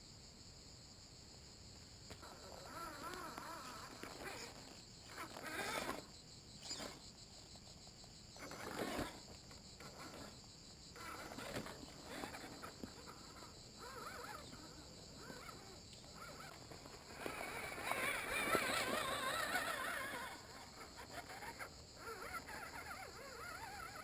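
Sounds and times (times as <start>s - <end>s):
rc car motor and gears whining: 2.1s - 24.0s.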